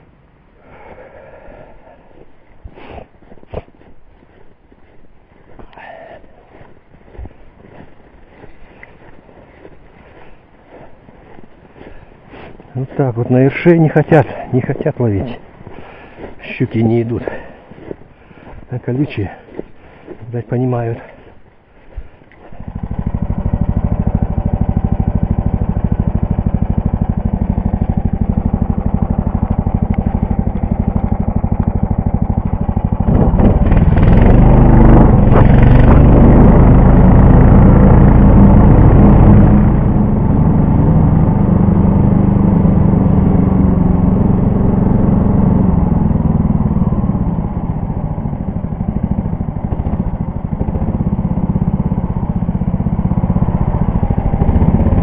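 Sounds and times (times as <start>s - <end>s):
small engine running: 3.2s - 55.0s.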